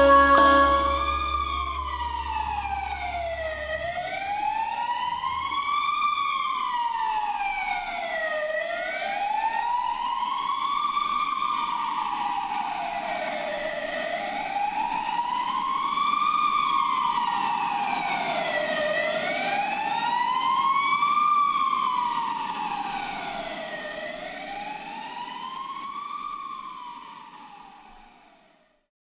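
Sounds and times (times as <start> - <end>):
emergency vehicle siren wailing: 0.0 - 28.4.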